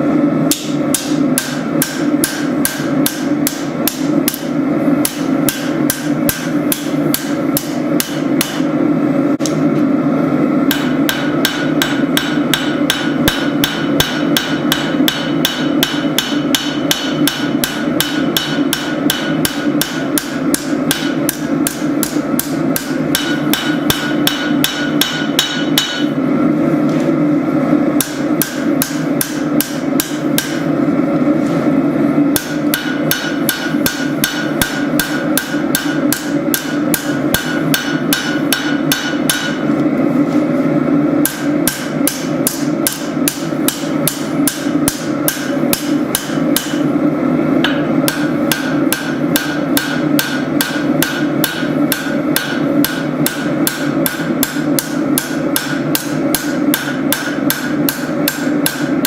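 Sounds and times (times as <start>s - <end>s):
hammer striking steel on anvil: 0.5s - 8.8s, 10.7s - 26.2s, 28.0s - 30.7s, 32.3s - 39.7s, 41.2s - 46.9s, 47.6s - 59.0s.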